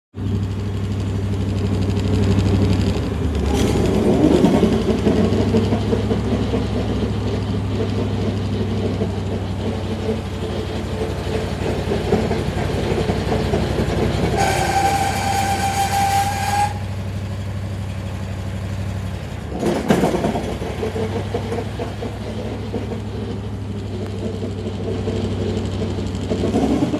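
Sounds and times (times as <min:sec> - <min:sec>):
car engine hum: 0:00.2 - 0:26.9.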